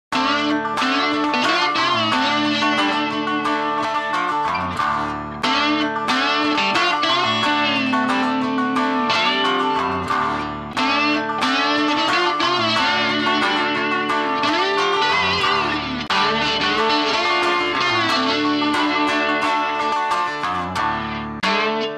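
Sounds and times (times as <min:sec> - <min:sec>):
guitar background music: 0:00.1 - 0:21.9.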